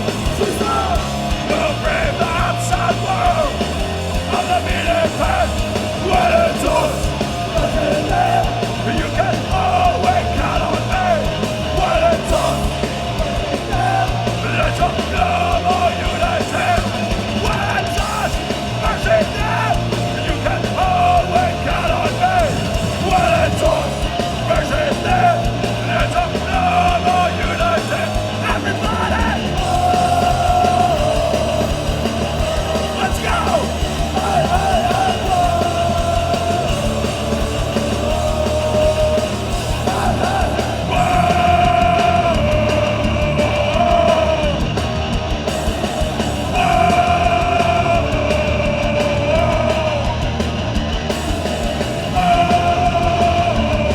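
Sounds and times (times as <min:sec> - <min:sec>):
shouted vocals: 0:00.0 - 0:50.8, 0:51.4 - 0:53.9
bass guitar: 0:00.0 - 0:53.9
distorted guitars: 0:00.0 - 0:53.9
pounding drums: 0:00.0 - 0:53.9.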